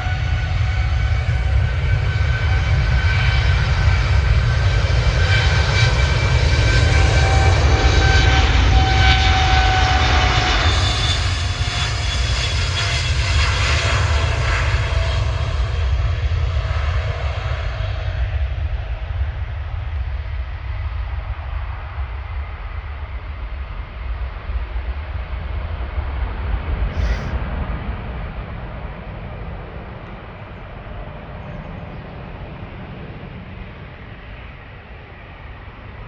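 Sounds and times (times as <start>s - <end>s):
aircraft engines roaring: 0.0s - 36.0s.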